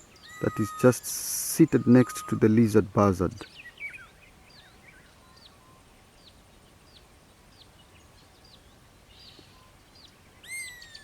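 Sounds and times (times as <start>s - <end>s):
faint high birdsong: 0.0s - 11.0s
lower bird notes: 0.0s - 11.0s.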